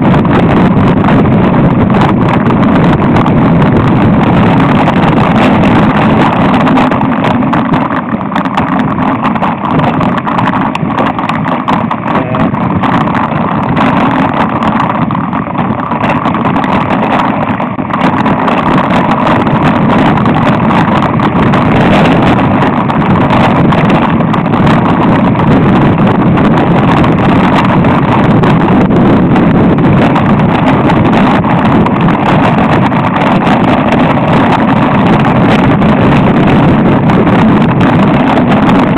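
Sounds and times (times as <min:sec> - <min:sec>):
bike rattling on rough trail: 0:00.0 - 0:38.9
wind buffeting microphone: 0:00.0 - 0:38.9.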